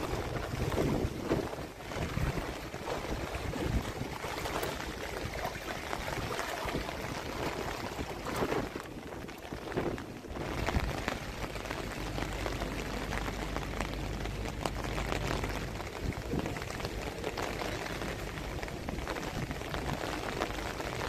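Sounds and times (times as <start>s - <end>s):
low steady rumble: 0.0s - 21.0s
rain falling: 0.0s - 21.0s.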